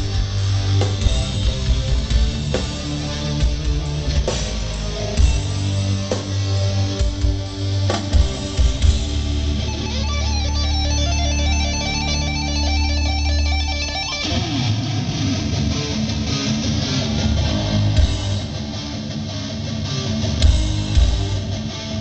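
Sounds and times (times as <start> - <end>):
live rock band playing: 0.0 - 22.0
strummed electric guitar: 0.0 - 22.0.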